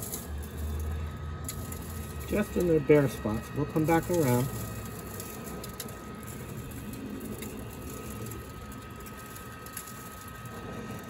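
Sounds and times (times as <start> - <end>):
electric motor running: 0.0 - 11.0
thin steady whine: 0.0 - 11.0.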